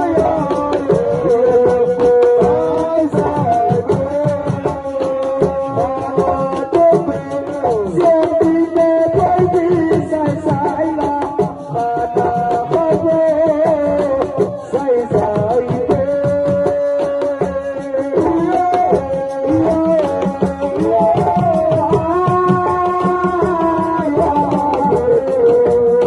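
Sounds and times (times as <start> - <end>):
fast hand-drum percussion: 0.0 - 26.0.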